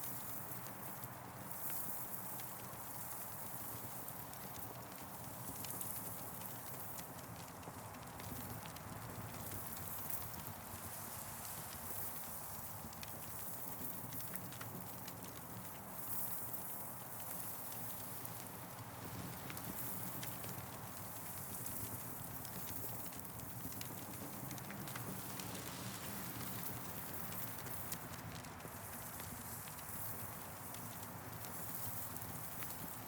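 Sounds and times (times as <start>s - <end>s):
campfire crackling and popping: 3.4s - 33.0s.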